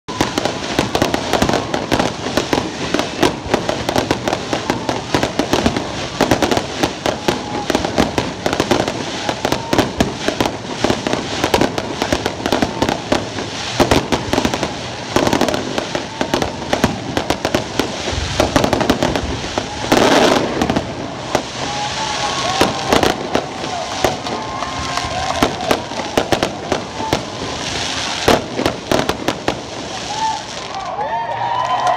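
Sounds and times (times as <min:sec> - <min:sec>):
fireworks bangs and crackling: 0:00.1 - 0:31.9.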